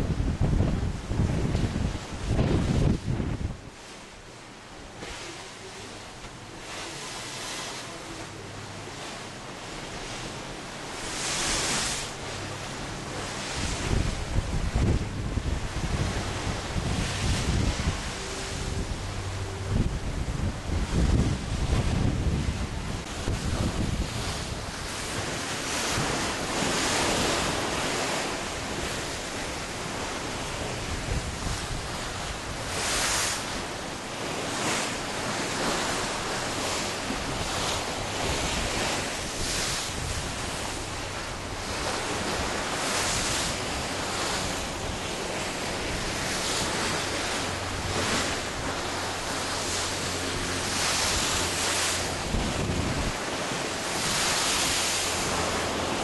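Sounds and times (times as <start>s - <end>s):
wind buffeting microphone: 0.0s - 3.9s, 9.0s - 56.0s
seawater rushing and splashing: 0.0s - 56.0s.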